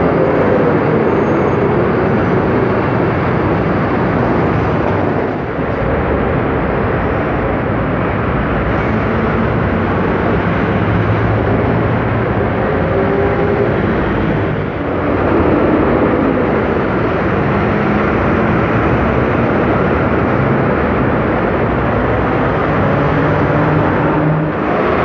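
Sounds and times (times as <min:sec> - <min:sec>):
buses driving past: 0:00.0 - 0:25.0
street traffic rumble: 0:00.0 - 0:25.0.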